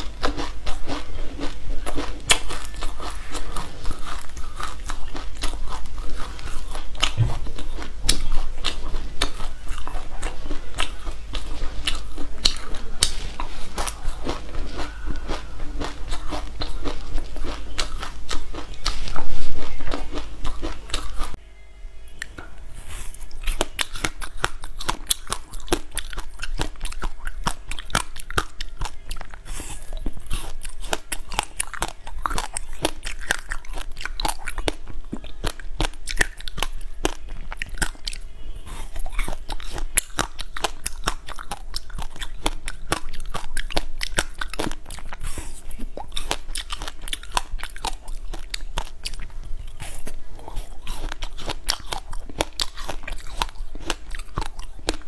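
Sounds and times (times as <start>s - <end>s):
biting and chewing ice pop: 0.0s - 21.4s, 22.2s - 55.0s
chewing crunchy seeds: 0.0s - 21.4s, 22.1s - 55.0s.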